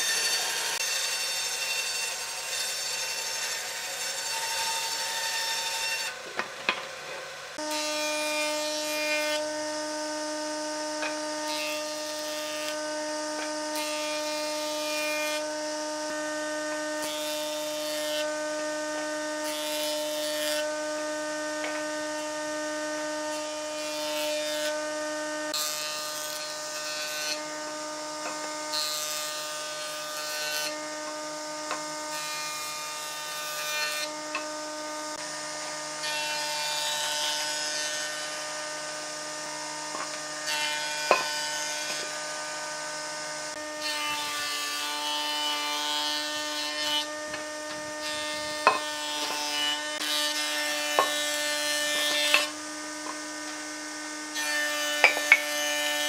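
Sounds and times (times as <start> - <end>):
power tool motor running: 0.0 - 6.2, 7.6 - 56.0
rasping wood cutting noise: 0.0 - 56.0.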